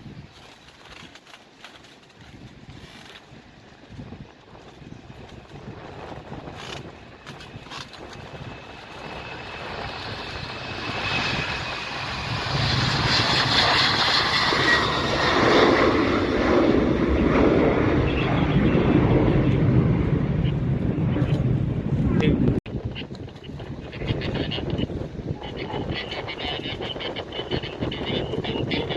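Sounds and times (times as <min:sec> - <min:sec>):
airliner engines roaring: 0:02.0 - 0:28.9.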